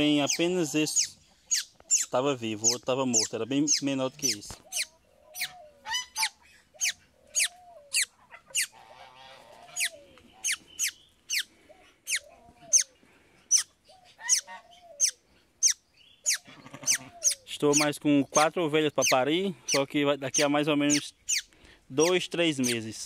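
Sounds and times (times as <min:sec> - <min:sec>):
sharp high bird calls: 0:00.0 - 0:23.0
softer lower bird calls: 0:00.0 - 0:23.0.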